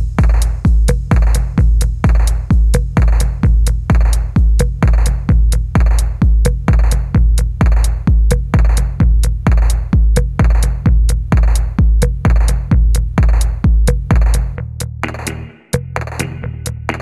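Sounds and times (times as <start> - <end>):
electronic music with kick drum: 0.0 - 17.0.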